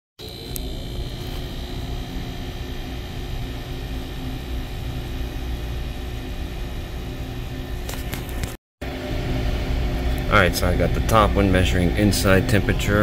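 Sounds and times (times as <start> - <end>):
refrigeration unit humming: 0.2 - 13.0.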